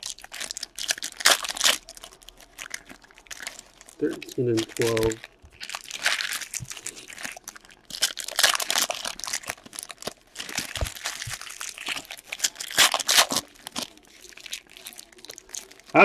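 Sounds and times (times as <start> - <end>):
plastic wrappers tearing and crinkling: 0.0 - 16.0.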